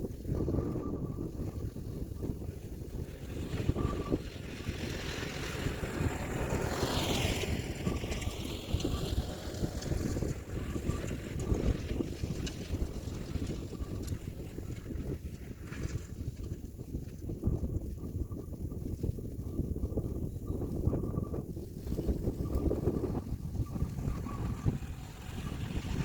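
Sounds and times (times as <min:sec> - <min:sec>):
tractor diesel engine running: 0:00.0 - 0:16.9, 0:20.6 - 0:26.0
wind buffeting microphone: 0:00.0 - 0:26.0.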